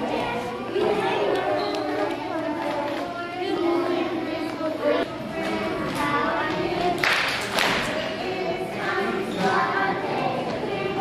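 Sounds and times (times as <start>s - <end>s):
young children singing: 0.0s - 11.0s.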